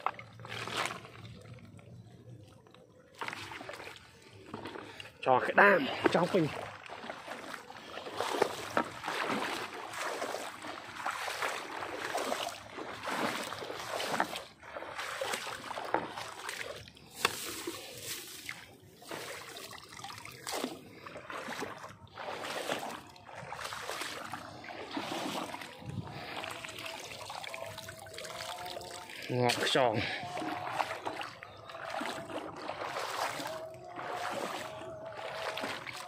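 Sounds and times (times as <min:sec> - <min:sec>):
shallow water sloshing and splashing: 0:00.0 - 0:36.0.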